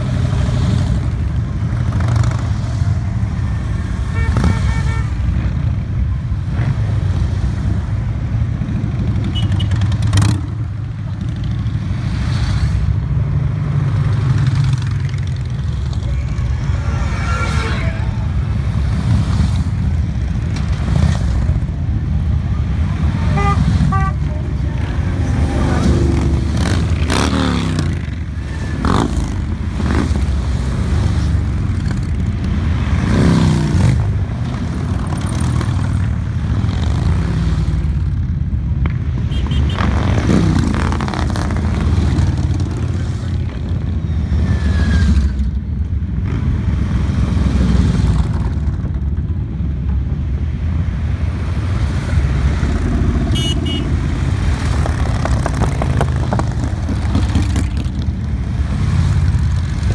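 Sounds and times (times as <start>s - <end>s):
motorcycles riding past: 0.0s - 45.6s, 50.9s - 59.9s.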